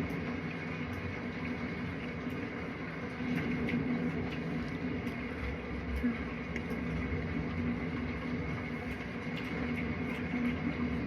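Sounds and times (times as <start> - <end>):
room hum: 0.0 - 11.0.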